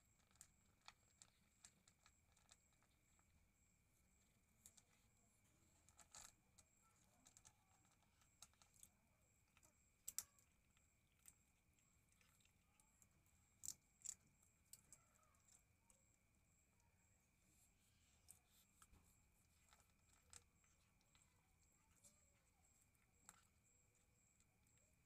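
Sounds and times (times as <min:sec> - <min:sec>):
cat chewing dry food: 0:00.0 - 0:03.4, 0:04.4 - 0:16.6, 0:18.1 - 0:25.0.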